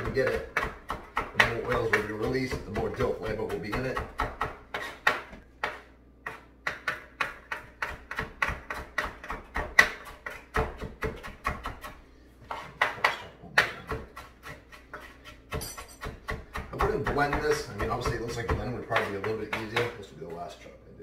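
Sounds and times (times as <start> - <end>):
knife chopping on plastic board: 0.0 - 20.0.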